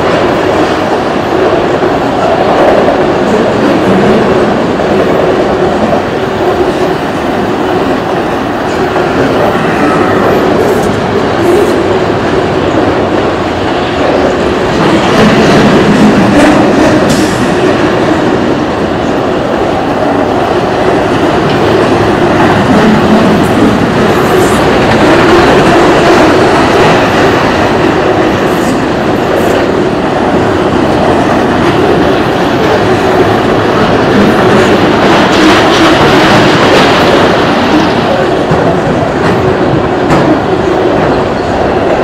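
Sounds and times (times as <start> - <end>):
freight train rumbling: 0.0 - 42.0
wheels clickety-clack on rails: 0.0 - 42.0.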